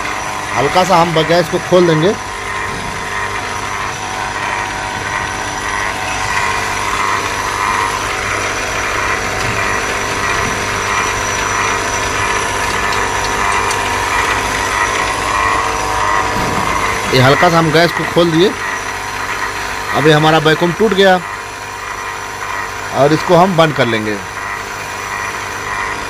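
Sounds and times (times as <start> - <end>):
vacuum pump humming: 0.0 - 26.0.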